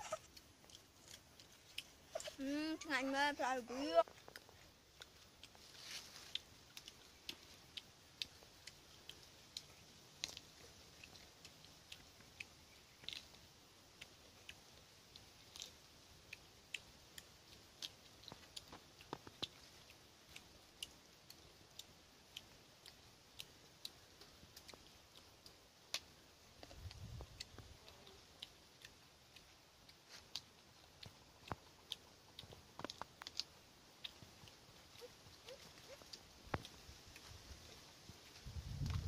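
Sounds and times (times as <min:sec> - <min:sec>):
crisp clicks of chewing figs: 0:00.0 - 0:39.0.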